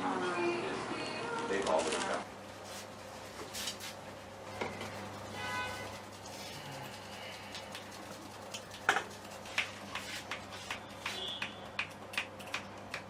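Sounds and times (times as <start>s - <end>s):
steady low hum: 2.2s - 13.0s.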